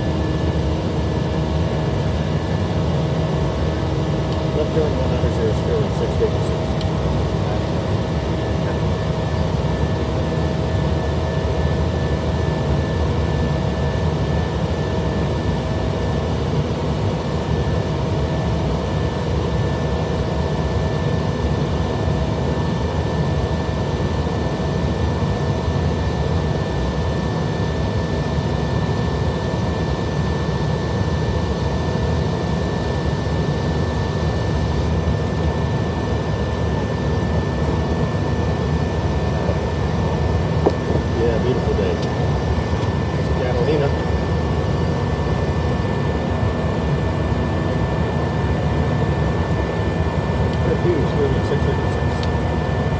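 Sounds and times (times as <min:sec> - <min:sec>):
jet engine roar in cockpit: 0:00.0 - 0:52.9.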